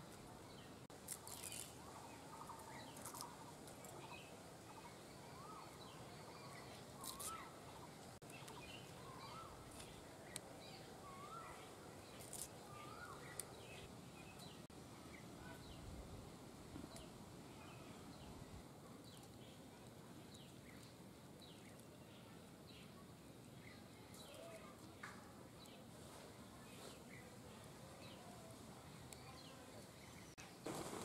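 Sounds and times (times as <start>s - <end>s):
faint outdoor ambience: 0.0s - 31.0s.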